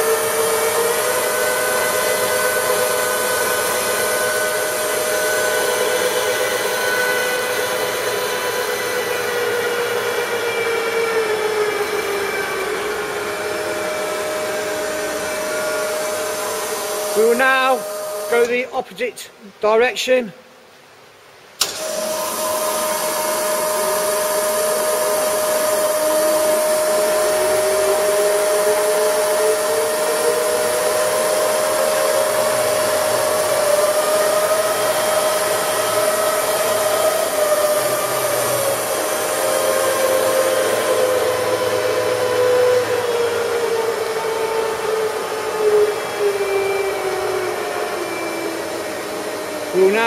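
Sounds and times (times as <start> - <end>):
steady motor whine: 0.0 - 18.7, 21.6 - 50.0
second whine changing pitch: 0.0 - 19.1, 21.6 - 50.0.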